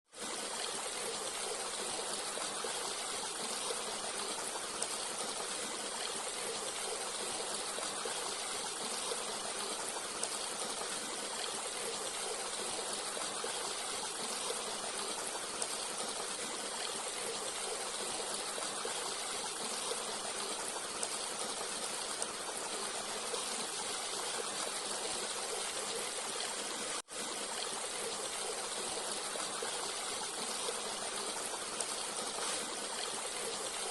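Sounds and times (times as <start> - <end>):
stream flowing: 0.1 - 33.9.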